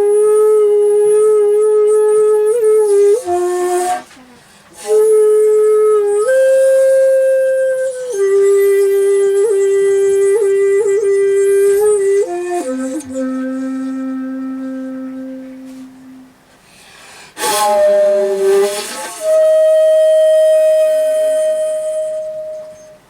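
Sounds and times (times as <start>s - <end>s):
bamboo flute playing: 0.0s - 16.5s, 17.3s - 23.0s.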